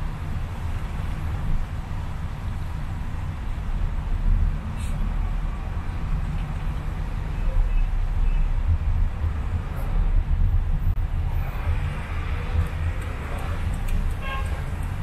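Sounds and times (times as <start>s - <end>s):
car driving: 0.0s - 15.0s.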